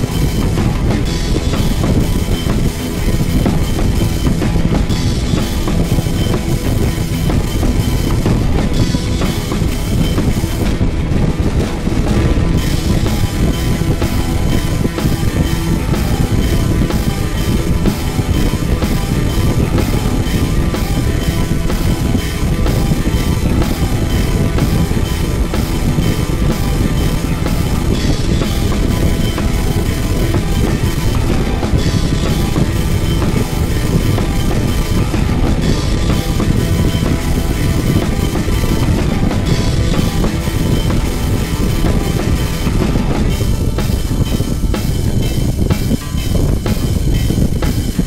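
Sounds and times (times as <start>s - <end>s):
rock music with guitar and drums: 0.0s - 48.0s.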